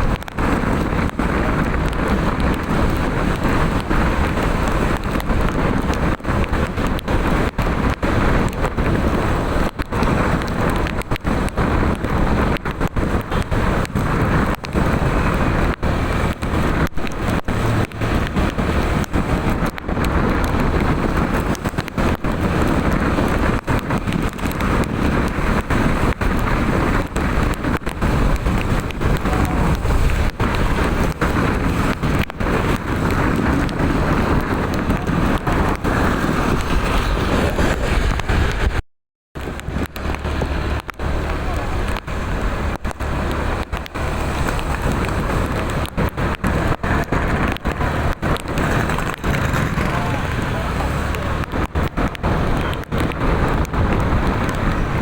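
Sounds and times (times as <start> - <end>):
wind and rain on microphone: 0.0 - 55.0.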